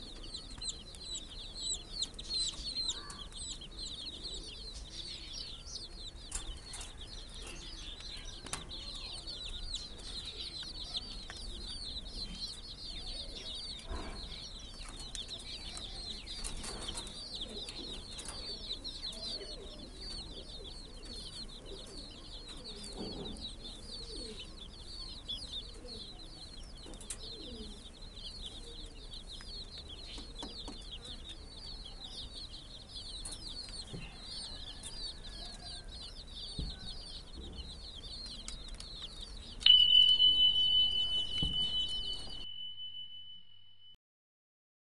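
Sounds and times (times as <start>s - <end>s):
baby chicks peeping: 0.0s - 43.2s.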